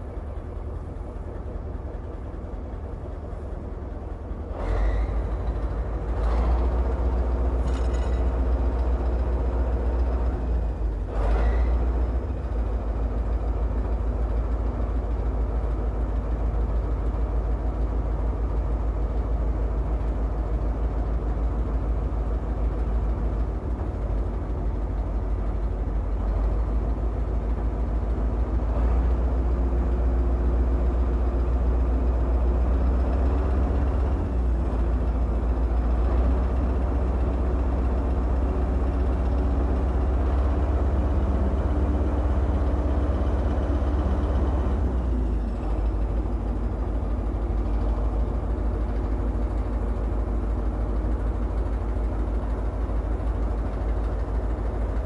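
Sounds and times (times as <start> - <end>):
heavy engine running: 0.0 - 55.0.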